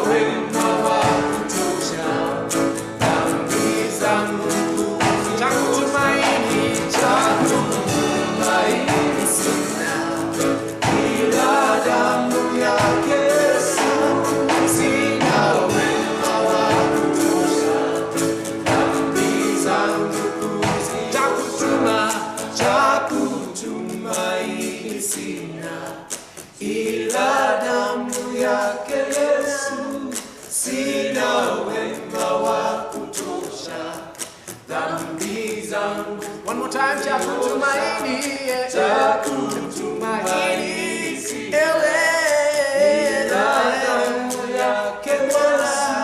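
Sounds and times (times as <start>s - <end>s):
choir singing gospel song: 0.0s - 46.0s.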